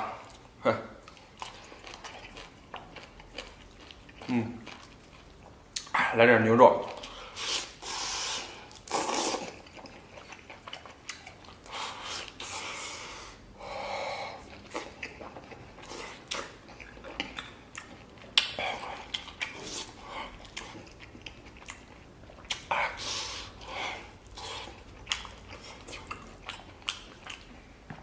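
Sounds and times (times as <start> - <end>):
person chewing wetly: 0.0 - 5.9, 6.8 - 27.9.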